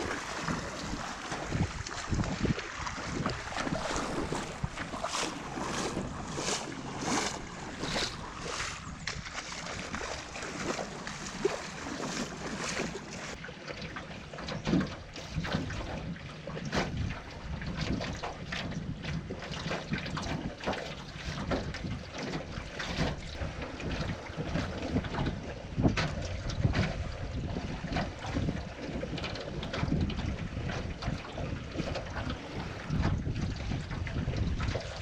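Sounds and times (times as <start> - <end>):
wind buffeting microphone: 0.0 - 13.4, 14.4 - 35.0
water splashing against canoe: 0.0 - 35.0.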